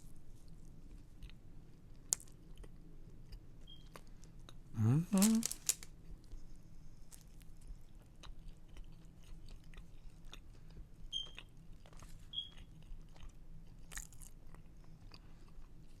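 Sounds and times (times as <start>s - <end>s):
chewing food: 0.4s - 4.6s, 7.0s - 16.0s.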